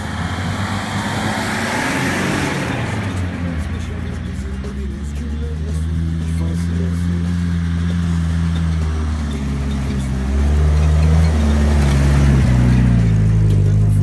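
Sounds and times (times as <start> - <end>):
off-road vehicle engine under load: 0.0 - 14.0.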